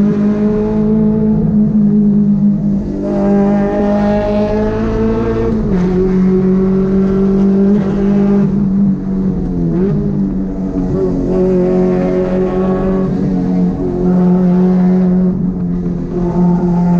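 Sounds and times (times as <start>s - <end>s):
car engine at high revs: 0.0s - 16.9s.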